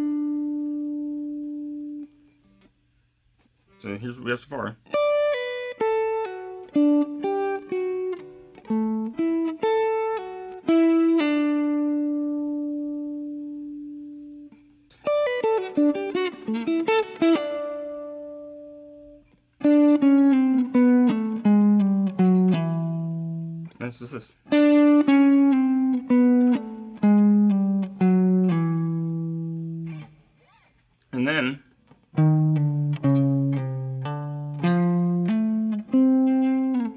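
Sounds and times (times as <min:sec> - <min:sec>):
jazz guitar single-note line: 0:00.0 - 0:02.1, 0:04.1 - 0:30.1, 0:31.2 - 0:36.9.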